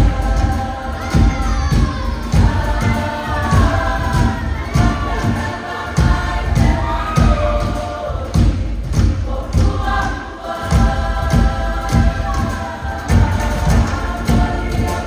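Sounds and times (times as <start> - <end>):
girls singing in unison: 0.0 - 15.0
heavy beat: 0.0 - 15.0.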